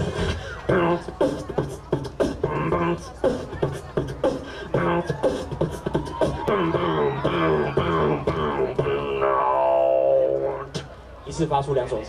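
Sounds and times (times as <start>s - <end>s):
beatboxing percussive strokes: 0.0s - 11.0s.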